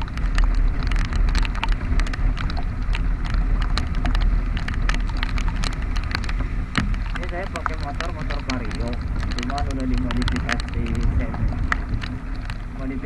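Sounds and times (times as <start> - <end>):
rain clicking on camera case: 0.0 - 13.0
scooter engine rumble: 0.0 - 13.0
wind noise: 0.0 - 13.0.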